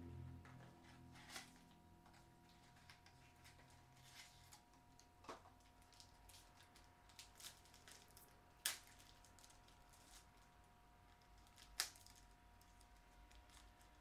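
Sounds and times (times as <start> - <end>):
faint electrical whine: 0.0 - 14.0.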